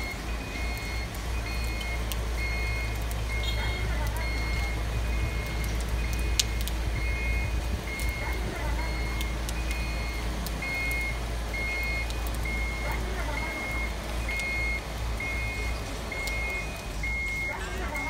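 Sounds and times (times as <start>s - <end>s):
crane warning alarm beeping: 0.0s - 18.0s
diesel engine rumble: 0.0s - 18.0s.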